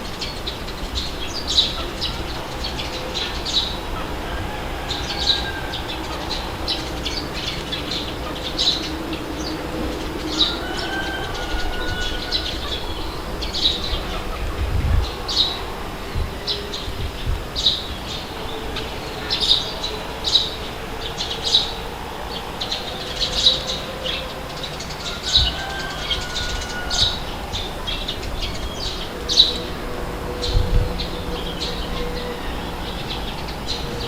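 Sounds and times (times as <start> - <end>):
birds chirping: 0.0 - 34.0
steady rushing background: 0.0 - 34.0.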